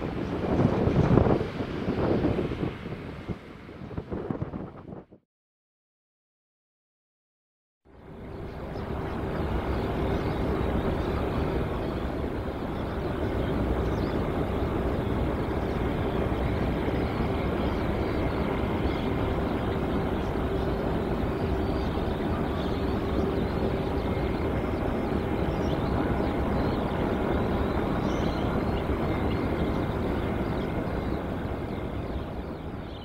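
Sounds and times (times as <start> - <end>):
jet engines at takeoff power: 0.0 - 5.1, 7.9 - 33.0.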